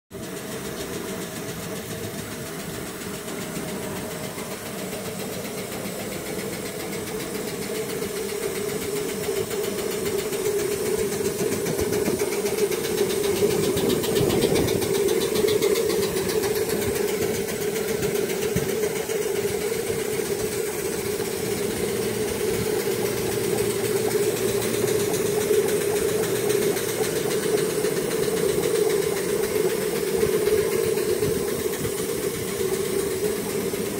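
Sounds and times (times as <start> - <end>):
steam engine running: 0.1 - 33.9
escaping steam: 0.2 - 33.9.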